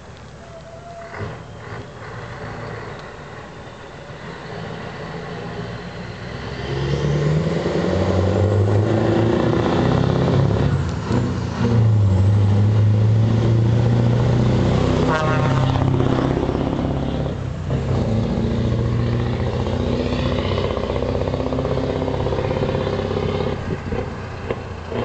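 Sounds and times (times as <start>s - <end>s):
truck diesel engine approaching: 0.0s - 25.0s.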